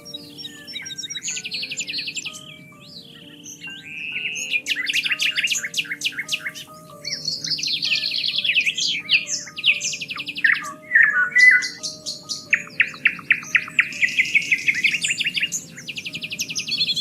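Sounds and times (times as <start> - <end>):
soft slow music: 0.0 - 17.0
songbirds singing and chirping: 0.0 - 17.0.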